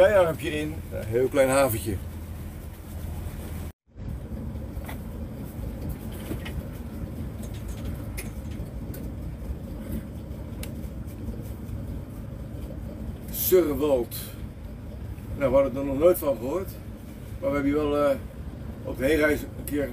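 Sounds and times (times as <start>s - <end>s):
boat engine low rumble: 0.0s - 19.9s.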